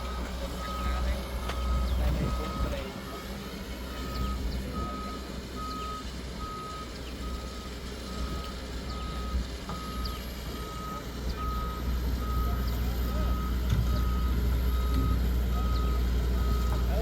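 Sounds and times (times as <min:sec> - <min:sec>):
diesel engine rumble: 0:00.0 - 0:17.0
reversing alarm beeping: 0:00.0 - 0:17.0.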